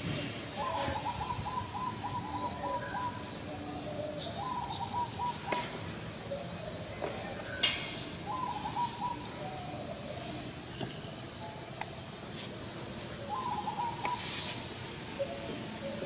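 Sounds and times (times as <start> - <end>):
bird calling: 0.5 - 11.0, 13.1 - 16.0.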